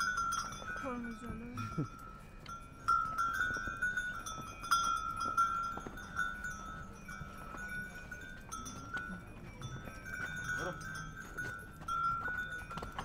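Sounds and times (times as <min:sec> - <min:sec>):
metal bells clanking: 0:00.0 - 0:13.0.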